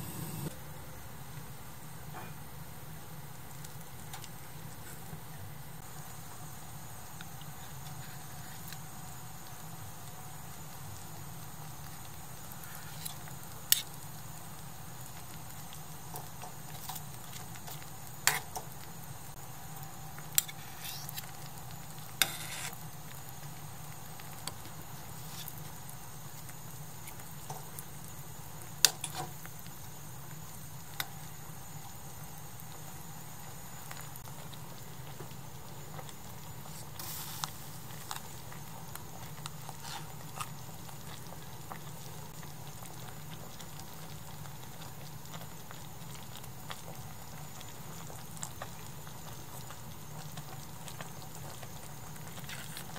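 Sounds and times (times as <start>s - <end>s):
pot bubbling: 1.8s - 52.9s.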